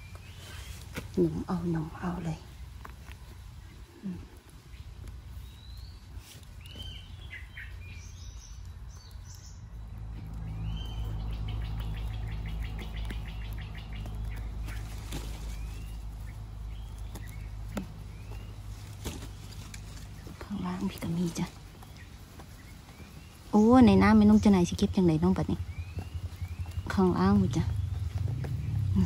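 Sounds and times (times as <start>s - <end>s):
birds chirping and calling: 0.0s - 29.0s
low steady rumble: 0.0s - 29.0s.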